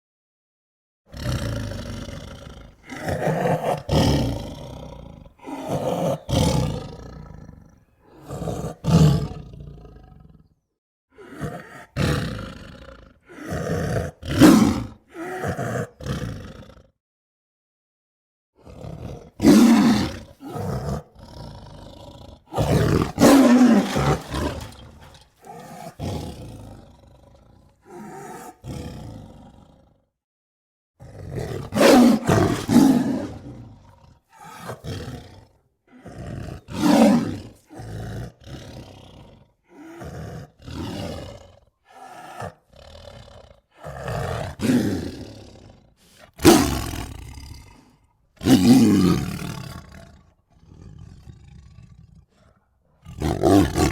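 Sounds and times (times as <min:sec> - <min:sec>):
tiger roaring and growling: 0:01.1 - 0:17.0, 0:18.6 - 0:30.1, 0:31.0 - 0:53.9.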